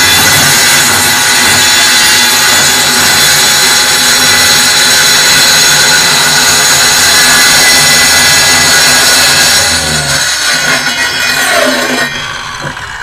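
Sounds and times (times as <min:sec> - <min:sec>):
circular saw cutting wood: 0:00.0 - 0:13.0.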